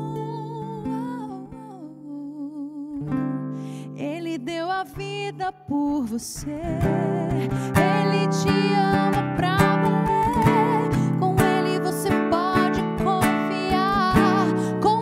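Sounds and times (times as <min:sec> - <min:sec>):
woman singing with vibrato: 0:00.0 - 0:03.2, 0:03.8 - 0:15.0
fingerstyle acoustic guitar: 0:00.0 - 0:15.0.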